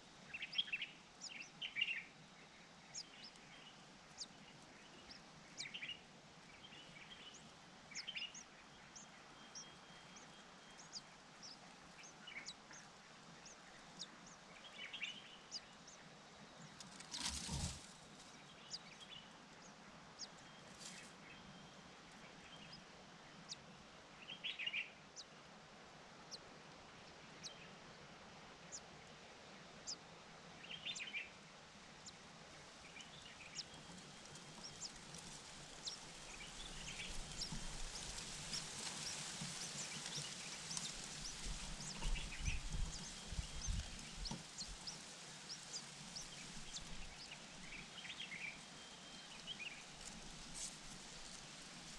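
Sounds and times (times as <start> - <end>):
wild birds chirping: 0.0 - 23.6, 32.0 - 51.9
outdoor background hiss: 0.0 - 51.9.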